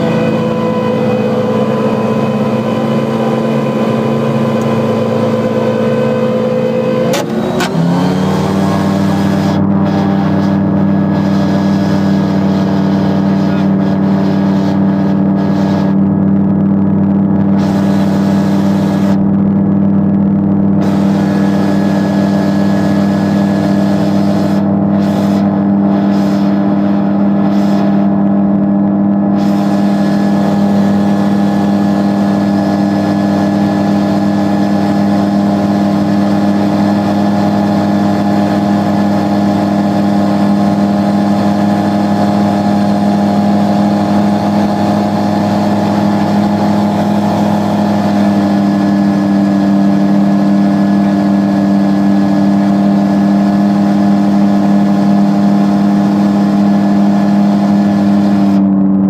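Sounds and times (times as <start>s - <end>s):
gyroplane engine and propeller drone: 0.0s - 59.0s.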